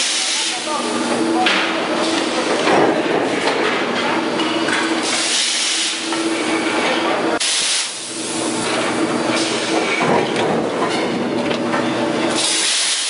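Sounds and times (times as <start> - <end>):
machine hum: 0.0 - 12.8.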